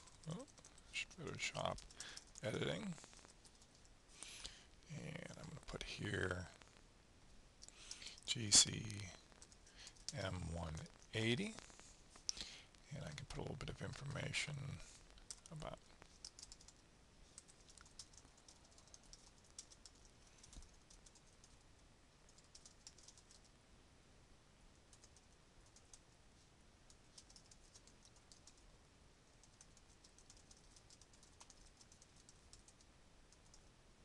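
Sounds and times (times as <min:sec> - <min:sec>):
faint computer keyboard typing: 0:00.0 - 0:06.6, 0:07.6 - 0:12.4, 0:13.0 - 0:21.6, 0:22.2 - 0:23.5, 0:24.9 - 0:26.2, 0:26.8 - 0:28.7, 0:29.3 - 0:33.7.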